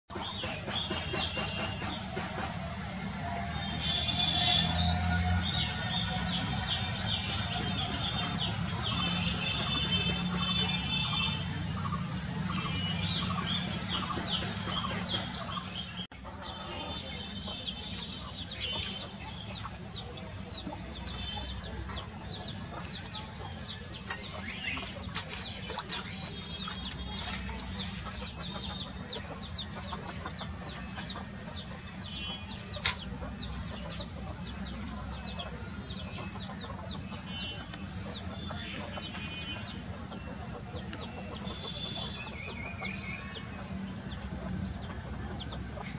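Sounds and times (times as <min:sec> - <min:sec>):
birds chirping: 0:00.1 - 0:45.9
chickens clucking: 0:00.1 - 0:45.9.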